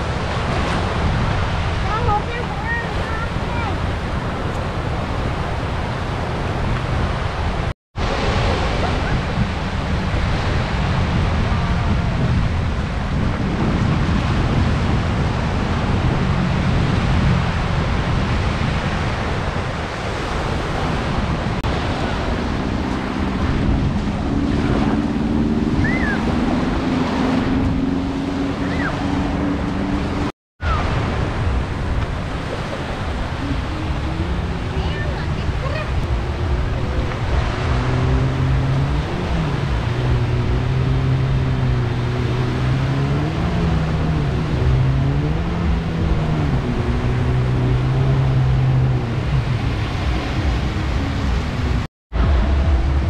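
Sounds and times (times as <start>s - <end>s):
sea waves washing on sandy shore: 0.0s - 53.0s
wind on microphone: 0.0s - 53.0s.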